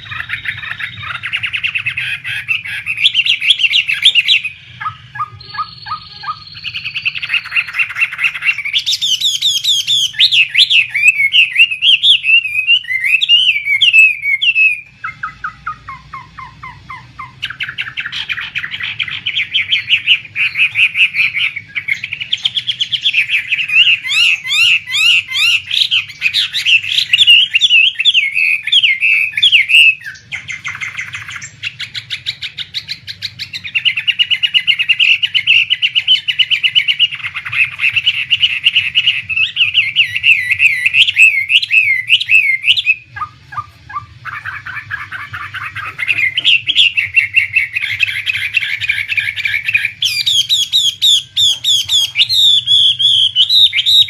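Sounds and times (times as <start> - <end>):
bird singing whistled trills: 0.0 - 54.0.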